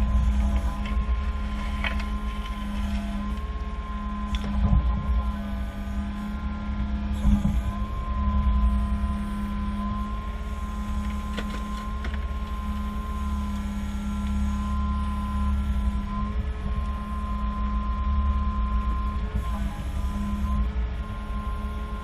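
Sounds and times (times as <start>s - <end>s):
engine whine and rumble: 0.0s - 22.0s.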